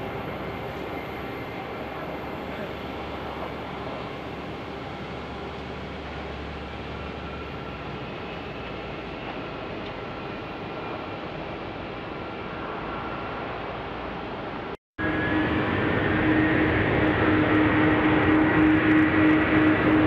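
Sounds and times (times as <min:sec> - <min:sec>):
distant jet engines rushing: 0:00.0 - 0:20.0.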